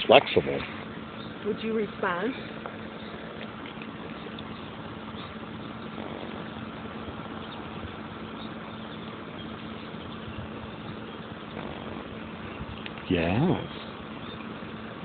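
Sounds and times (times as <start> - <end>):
machine hum with hiss: 0.7 - 15.0.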